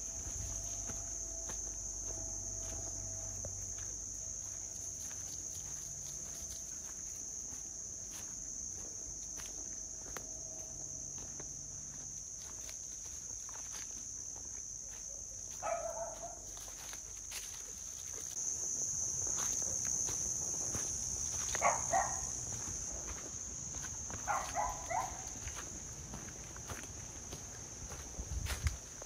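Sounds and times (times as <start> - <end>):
footsteps on dry leaves: 0.0 - 29.0
insects chirring: 0.0 - 29.0.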